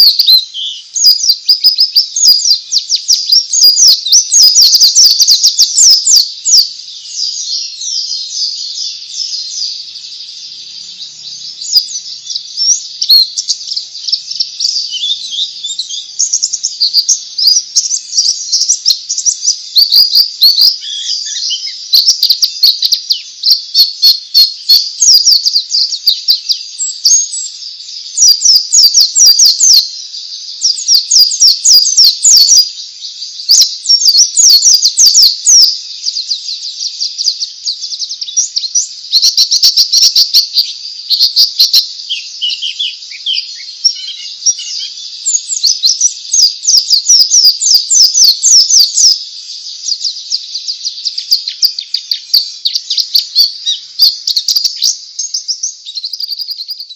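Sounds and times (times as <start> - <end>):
bird singing quick high chirps: 0.0 - 56.9.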